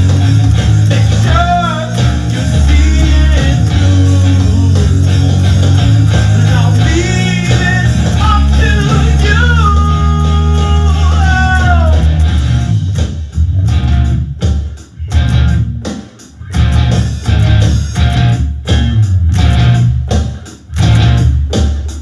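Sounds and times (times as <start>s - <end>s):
sustained bass notes: 0.0s - 21.6s
electric guitar bent notes: 0.0s - 21.8s
rock band jamming: 0.0s - 22.0s.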